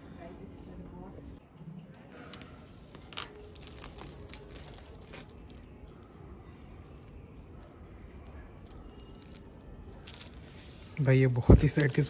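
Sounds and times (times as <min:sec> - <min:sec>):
plastic film peeling and crinkling: 0:02.3 - 0:12.0.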